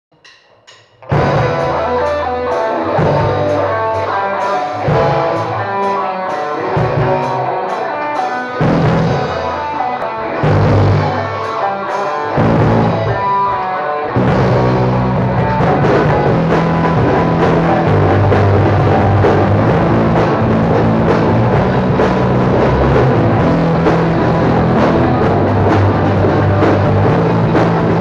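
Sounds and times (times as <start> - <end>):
rock backing track with drums and bass: 0.8 - 28.0
electric guitar: 1.0 - 28.0.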